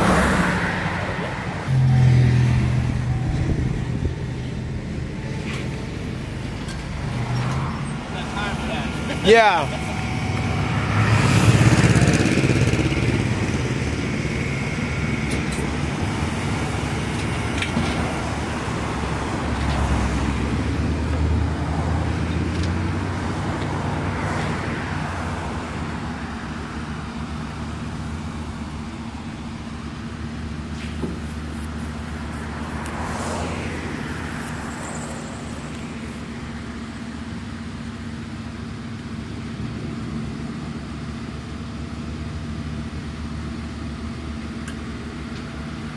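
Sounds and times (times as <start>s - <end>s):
traffic passing: 0.0s - 45.9s
vehicle engine hum and road noise: 0.0s - 45.9s.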